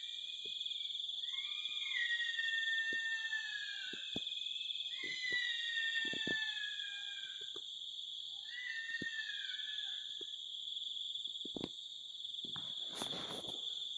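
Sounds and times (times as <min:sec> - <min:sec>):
high insect chorus: 0:00.0 - 0:13.9.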